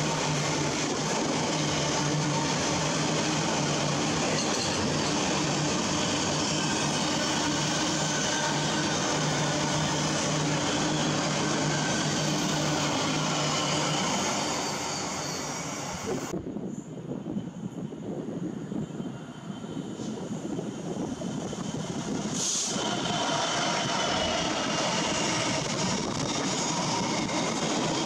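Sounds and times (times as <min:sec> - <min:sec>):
freight train wheels on rail: 0:00.0 - 0:28.0.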